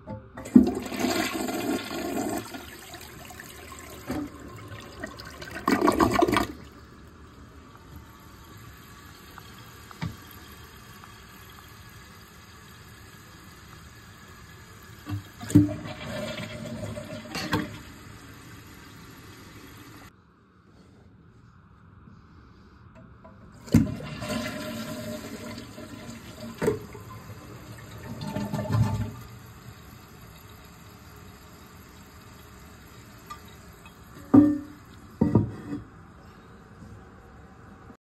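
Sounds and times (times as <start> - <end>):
toilet flushing: 0.0 - 20.1, 23.6 - 35.8
toilet tank refilling hiss: 0.4 - 20.1, 23.6 - 35.3.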